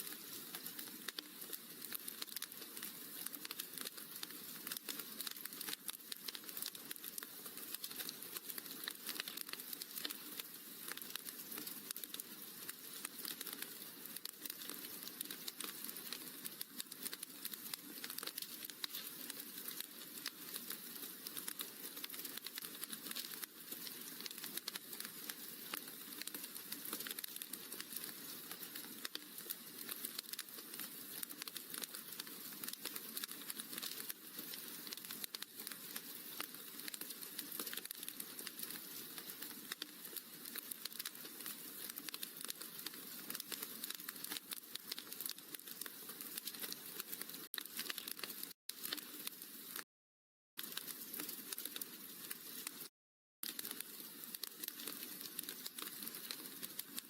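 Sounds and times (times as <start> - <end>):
wood fire crackling: 0.0 - 49.8, 50.6 - 57.0.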